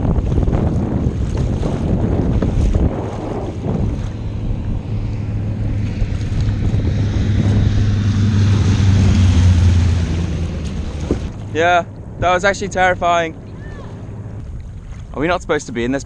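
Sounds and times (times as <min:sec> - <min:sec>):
propeller plane engine droning: 0:00.0 - 0:14.9
wind buffeting microphone: 0:00.0 - 0:16.0.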